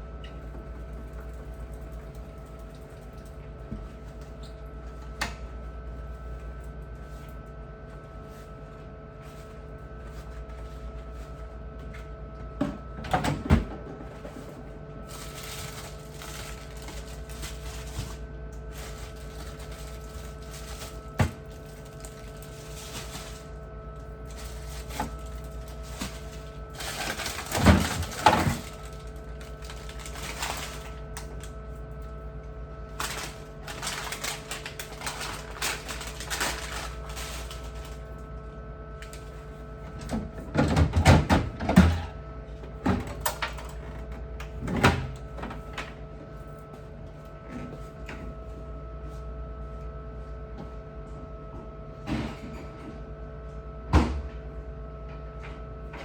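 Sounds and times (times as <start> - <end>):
refrigerator hum: 0.0 - 56.0.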